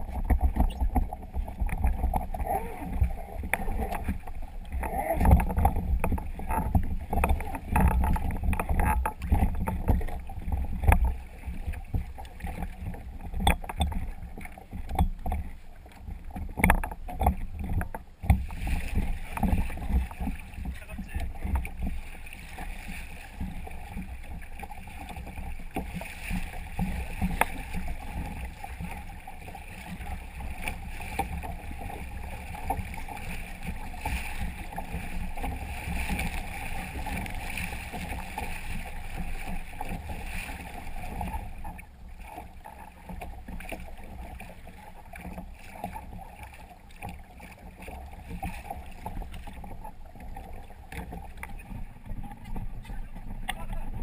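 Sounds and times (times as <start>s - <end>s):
water splashing along a hull: 0.0s - 54.0s.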